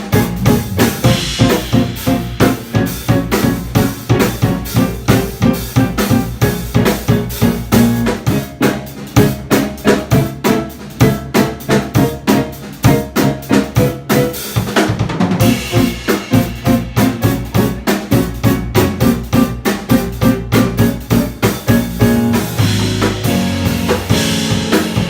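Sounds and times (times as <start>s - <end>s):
drum kit beat: 0.0s - 25.0s
jazz band playing: 0.0s - 25.0s.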